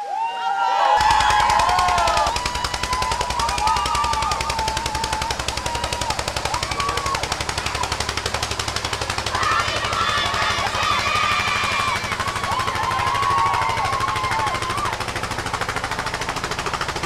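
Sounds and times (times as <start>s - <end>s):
people calling out: 0.0s - 15.1s
tractor engine chugging: 1.0s - 17.0s.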